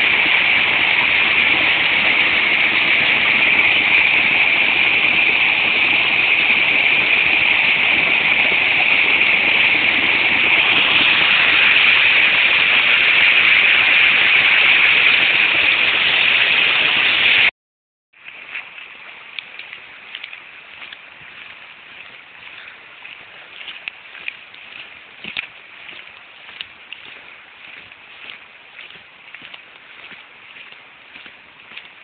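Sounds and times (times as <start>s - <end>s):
stream water rushing over drop: 0.0s - 17.5s, 18.2s - 32.0s.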